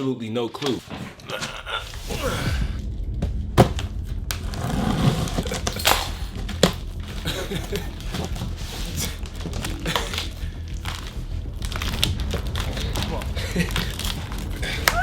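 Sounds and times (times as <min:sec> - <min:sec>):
steady low hum: 0:01.5 - 0:15.0.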